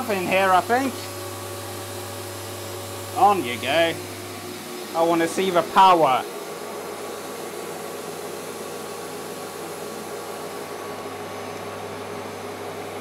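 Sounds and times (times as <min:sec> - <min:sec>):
inverter humming and whirring: 0:00.0 - 0:13.0.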